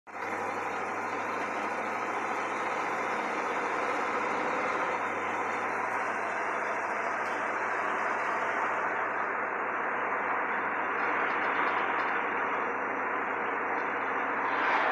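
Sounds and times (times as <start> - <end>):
car engine and road noise: 0.1 - 14.9.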